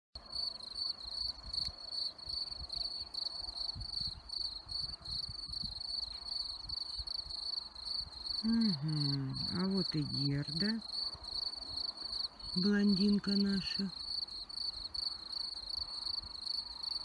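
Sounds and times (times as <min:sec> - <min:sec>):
crickets chirping: 0:00.2 - 0:17.0.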